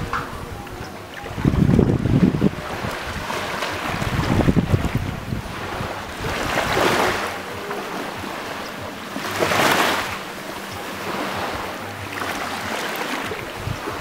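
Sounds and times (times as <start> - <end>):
wind rumble on microphone: 0.0 - 8.8, 9.4 - 14.0
small waves lapping on sand: 0.0 - 14.0.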